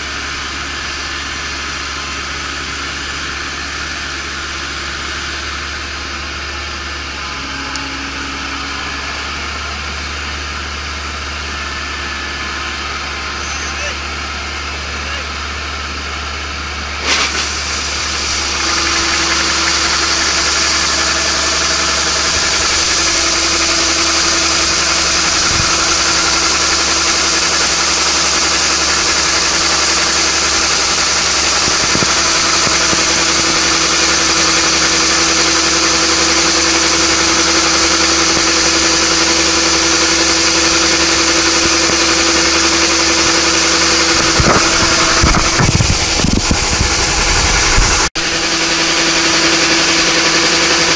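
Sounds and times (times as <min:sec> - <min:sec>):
combine harvester running: 0:00.0 - 0:50.9.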